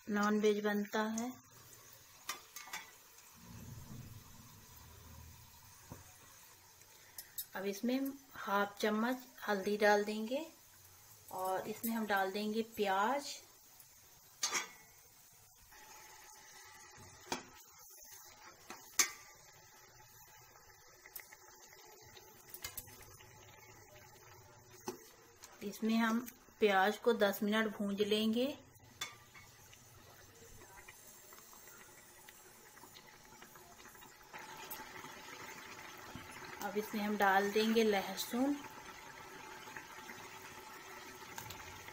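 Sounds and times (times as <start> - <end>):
onions sizzling in oil: 0.0 - 41.9.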